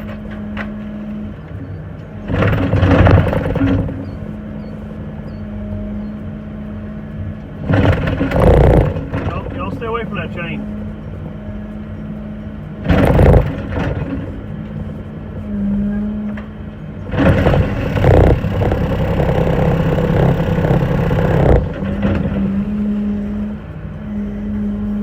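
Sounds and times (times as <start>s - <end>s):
engine revving under load: 2.2s - 25.0s.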